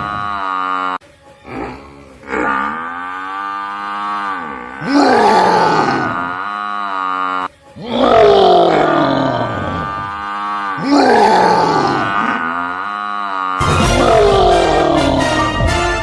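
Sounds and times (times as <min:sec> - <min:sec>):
cow bellowing: 0:00.0 - 0:15.6.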